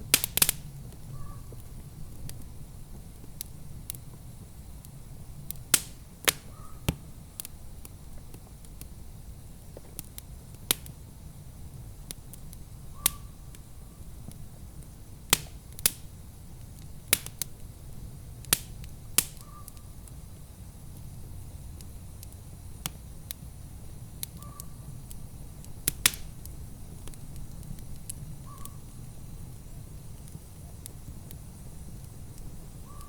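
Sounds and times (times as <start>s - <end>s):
low rumble of fire: 0.0s - 33.0s
wood fire popping and crackling: 0.0s - 33.0s.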